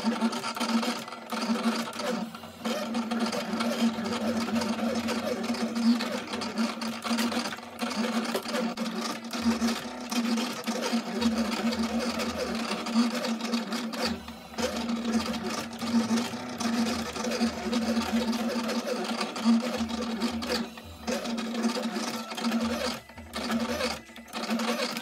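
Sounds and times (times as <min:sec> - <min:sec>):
cutting machine motors whirring: 0:00.0 - 0:25.0.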